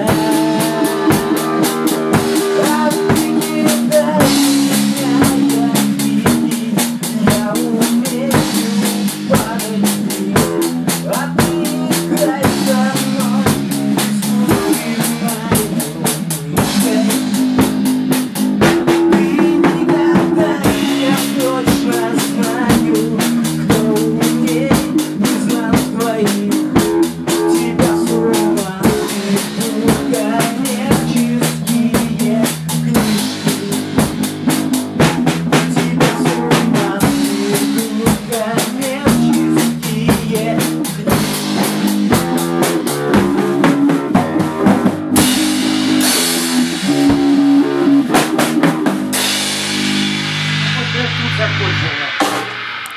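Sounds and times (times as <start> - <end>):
bass guitar: 0.0 - 52.9
drum kit fast beat: 0.0 - 52.9
guitar chords: 0.0 - 52.9.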